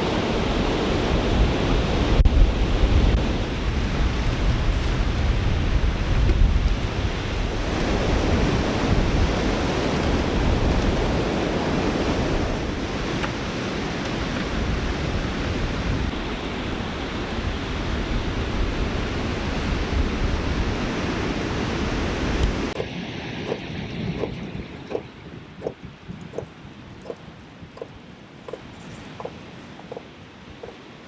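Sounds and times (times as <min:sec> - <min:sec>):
strong wind on microphone: 0:00.0 - 0:30.8.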